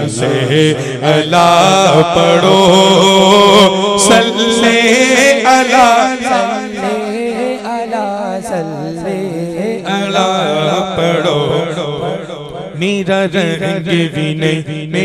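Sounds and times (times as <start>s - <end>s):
men singing devotional song: 0.0s - 15.0s.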